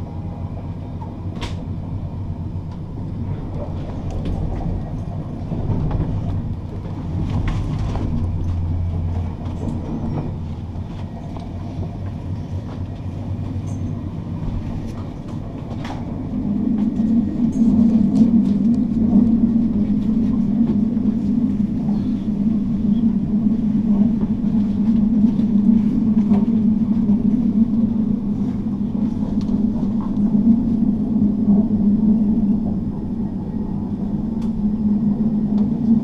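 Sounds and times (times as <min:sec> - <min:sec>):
passenger train rumbling: 0:00.0 - 0:36.0.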